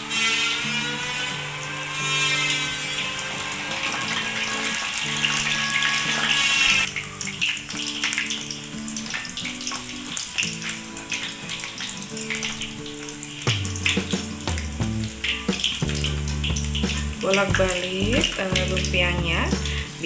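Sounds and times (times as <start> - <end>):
background music: 0.0 - 20.0
food deep-frying in oil: 0.0 - 20.0.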